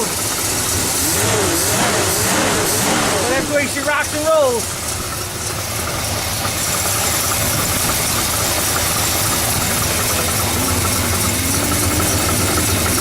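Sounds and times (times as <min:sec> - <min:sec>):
car engine idling: 0:00.0 - 0:13.0
exhaust rattle: 0:00.0 - 0:13.0.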